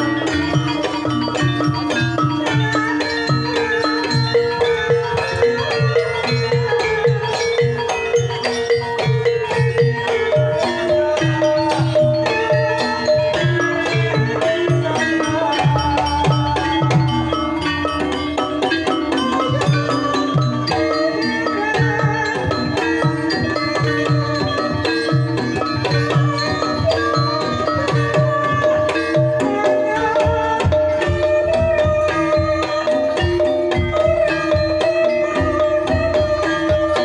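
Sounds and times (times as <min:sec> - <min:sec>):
ringing tuned percussion: 0:00.0 - 0:37.0.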